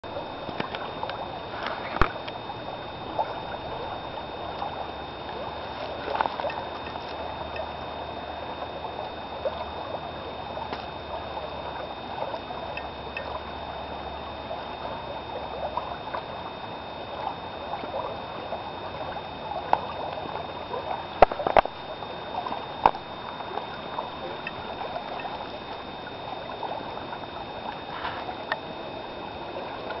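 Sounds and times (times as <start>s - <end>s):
creek water babbling: 0.0s - 30.0s.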